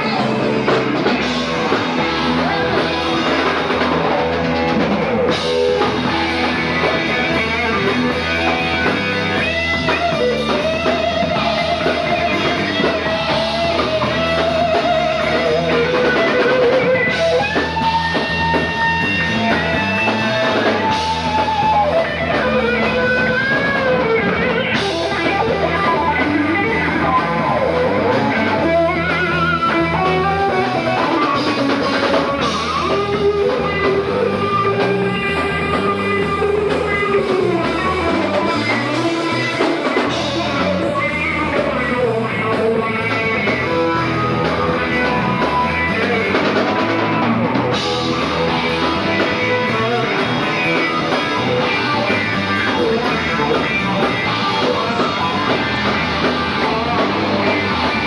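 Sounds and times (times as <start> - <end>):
drum kit: 0.0 - 58.0
electric guitar lead lines: 0.0 - 58.0.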